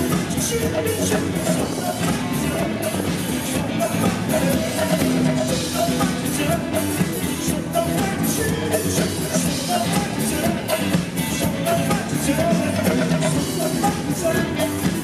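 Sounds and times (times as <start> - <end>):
drum kit beat: 0.0 - 15.0
rock band playing live: 0.0 - 15.0.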